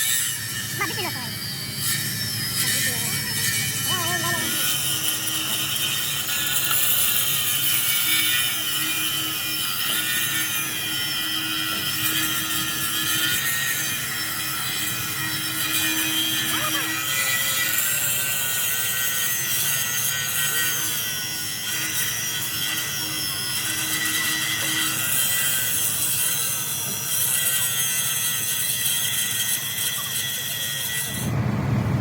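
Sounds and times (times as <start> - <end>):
power tool grinding: 0.0 - 32.0.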